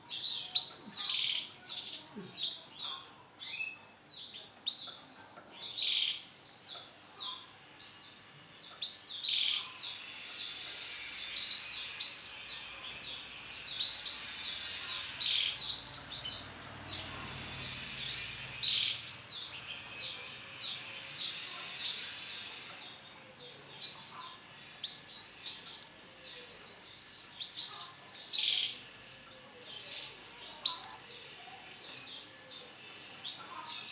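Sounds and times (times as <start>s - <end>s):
canary singing chirps and trills: 0.0s - 33.9s.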